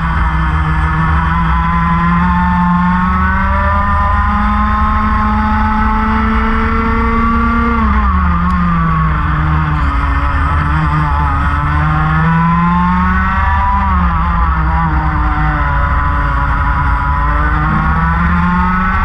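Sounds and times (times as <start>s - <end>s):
racing kart engine revving: 0.0s - 19.0s.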